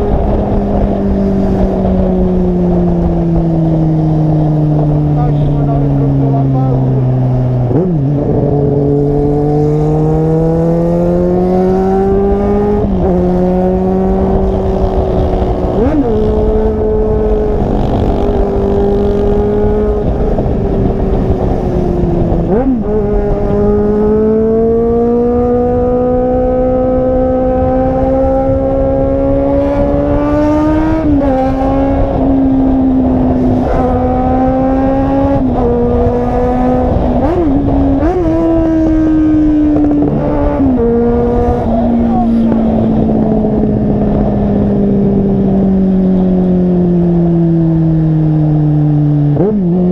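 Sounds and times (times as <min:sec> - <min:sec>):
car engine and exhaust accelerating: 0:00.0 - 0:49.9.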